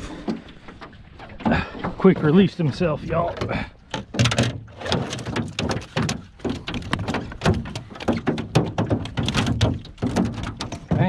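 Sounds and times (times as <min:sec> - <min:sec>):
fish flopping on metal floor: 0:00.3 - 0:11.0.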